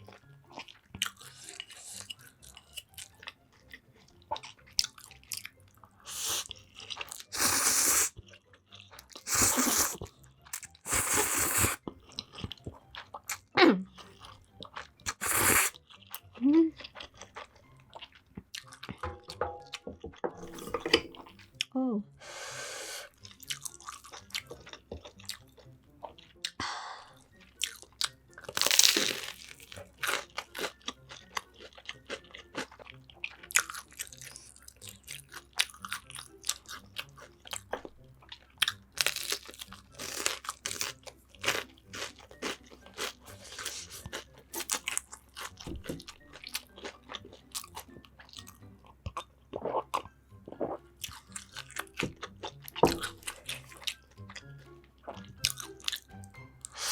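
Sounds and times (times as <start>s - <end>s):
chewing: 0.0s - 19.0s, 23.1s - 56.9s
crisp fried food crunching: 0.0s - 19.0s, 23.1s - 26.5s, 27.2s - 56.9s.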